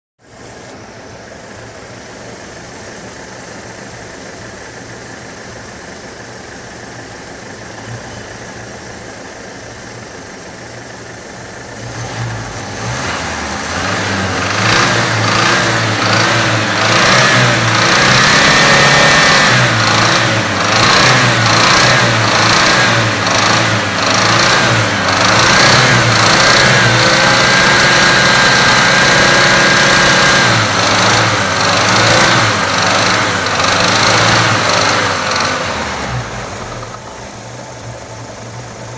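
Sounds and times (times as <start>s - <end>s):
car engine idling and revving: 0.3s - 38.9s.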